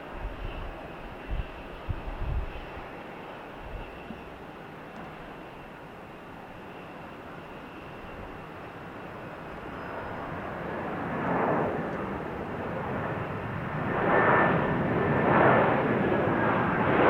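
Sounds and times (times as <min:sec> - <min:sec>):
airplane passing overhead: 0:00.0 - 0:17.0.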